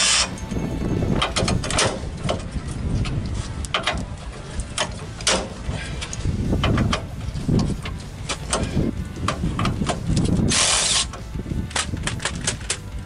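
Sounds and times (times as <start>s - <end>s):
low rumble: 0.3s - 13.0s.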